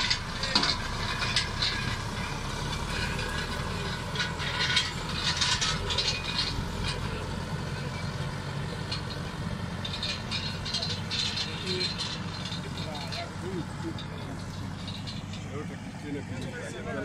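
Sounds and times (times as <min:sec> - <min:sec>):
metallic rattling and clanking: 0:00.0 - 0:17.0
tractor engine running: 0:00.0 - 0:17.0.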